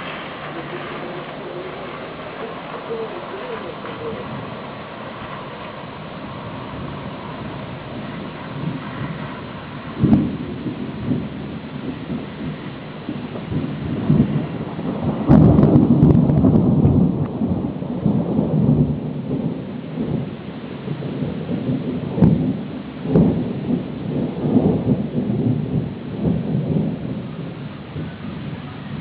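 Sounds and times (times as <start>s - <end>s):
rain hiss: 0.0s - 29.0s
thunder rolling: 0.0s - 29.0s.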